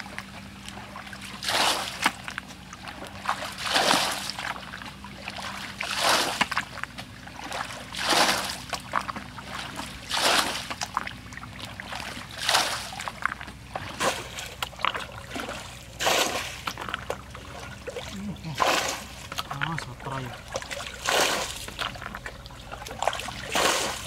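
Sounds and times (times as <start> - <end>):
water splashing from bucket: 0.7 - 4.6, 5.2 - 24.0.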